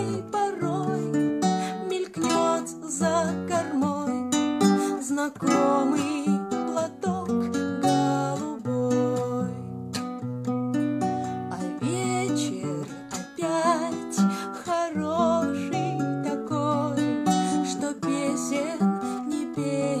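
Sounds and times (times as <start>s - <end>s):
woman singing: 0.0s - 10.0s, 11.2s - 20.0s
acoustic guitar chords: 0.0s - 20.0s.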